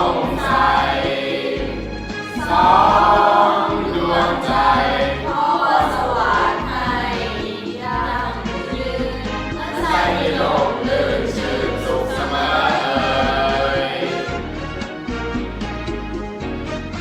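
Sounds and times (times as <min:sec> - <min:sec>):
several voices singing over music: 0:00.0 - 0:16.0.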